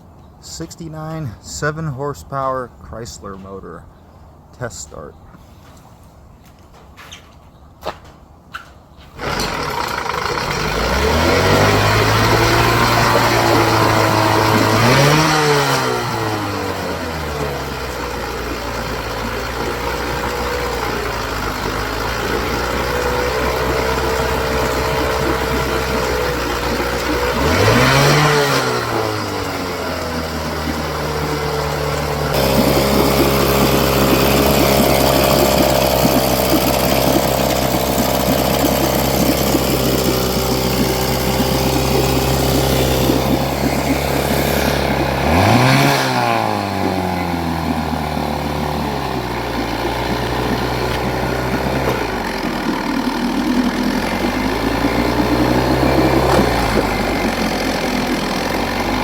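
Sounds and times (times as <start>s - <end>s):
outboard motor running and revving: 9.2s - 59.0s.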